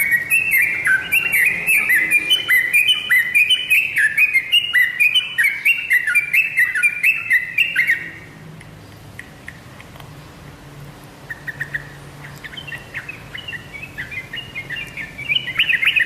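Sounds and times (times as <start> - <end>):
bird chirping song: 0.0 - 10.5, 11.2 - 16.0.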